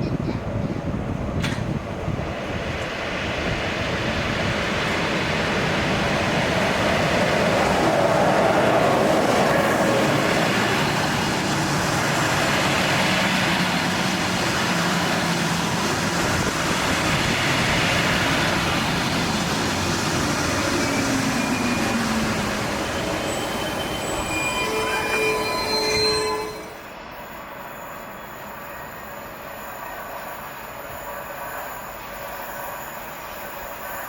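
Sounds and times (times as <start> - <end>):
train rolling on rails: 0.0 - 34.0.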